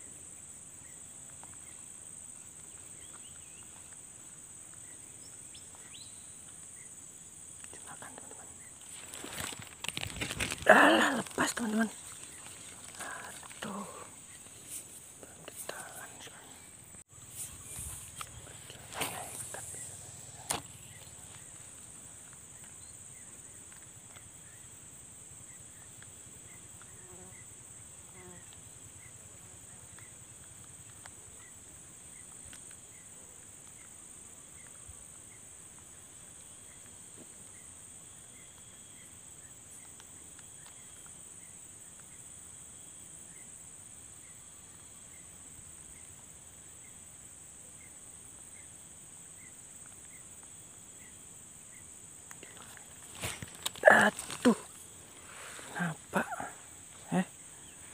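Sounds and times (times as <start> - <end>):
insects droning: 0.0 - 57.9.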